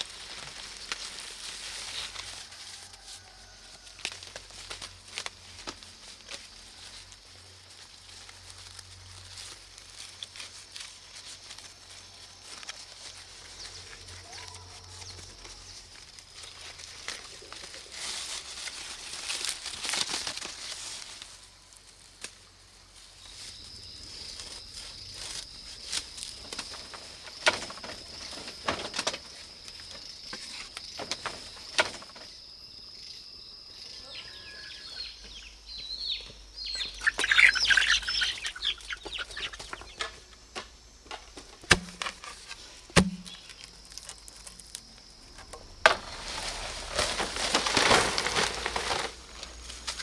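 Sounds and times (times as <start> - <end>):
plant material rustling: 0.0 - 32.4, 36.1 - 50.0.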